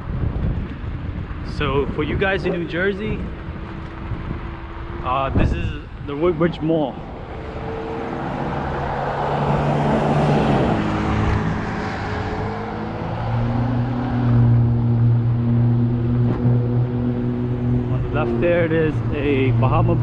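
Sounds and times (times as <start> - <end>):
low engine hum: 0.0 - 20.0
vehicle rushing past: 1.5 - 20.0.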